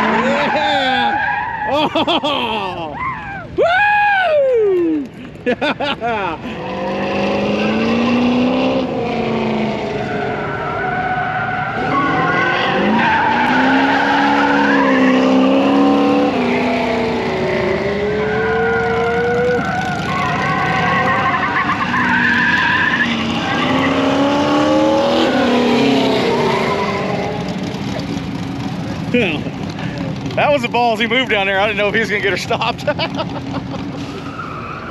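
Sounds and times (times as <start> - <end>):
tires skidding and squealing: 0.0 - 4.6, 6.3 - 34.9
truck engine revving: 6.4 - 34.9.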